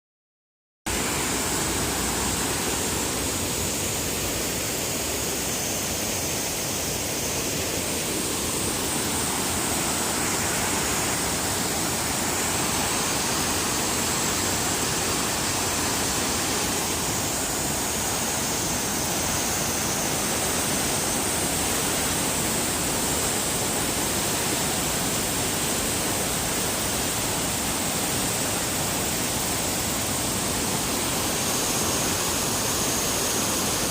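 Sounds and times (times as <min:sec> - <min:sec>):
waterfall rushing: 0:00.9 - 0:33.9.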